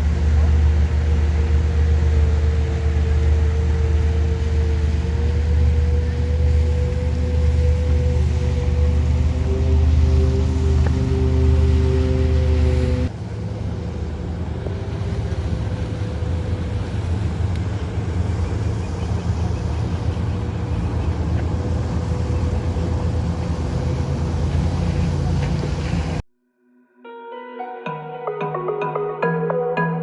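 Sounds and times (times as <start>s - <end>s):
steady low outdoor rumble: 0.0s - 26.2s.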